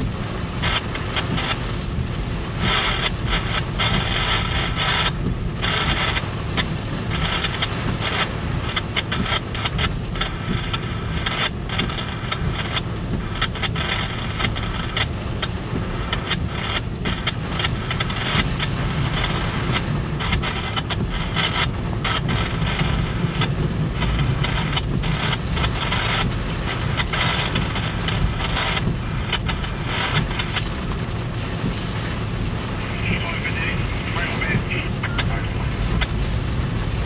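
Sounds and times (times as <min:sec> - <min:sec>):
freight train rumbling: 0:00.0 - 0:37.0
heavy rain on a car roof: 0:00.0 - 0:37.0.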